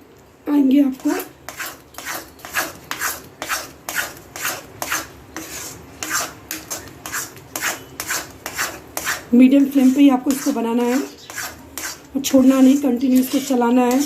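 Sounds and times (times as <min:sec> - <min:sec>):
spatula scraping a pan: 0:01.0 - 0:14.0.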